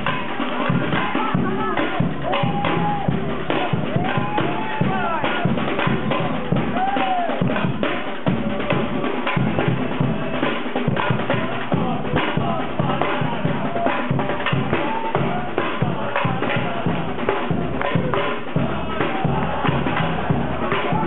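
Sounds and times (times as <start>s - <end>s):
samba percussion ensemble: 0.0s - 21.0s.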